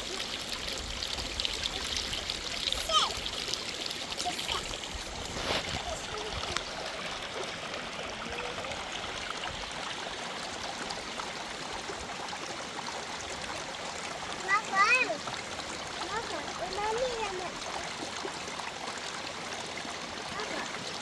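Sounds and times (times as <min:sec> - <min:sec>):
water flowing: 0:00.0 - 0:21.0.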